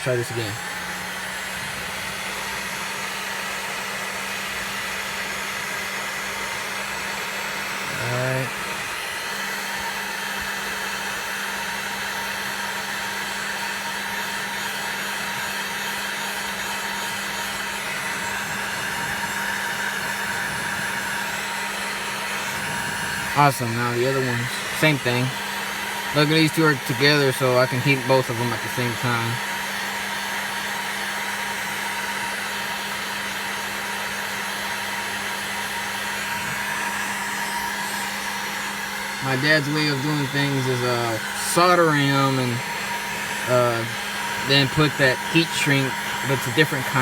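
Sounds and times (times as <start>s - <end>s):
heat gun blowing hiss: 0.0s - 47.0s.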